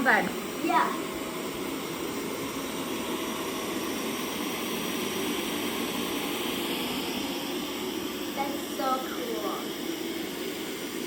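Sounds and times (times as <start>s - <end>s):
robot vacuum whirring: 0.0s - 11.0s.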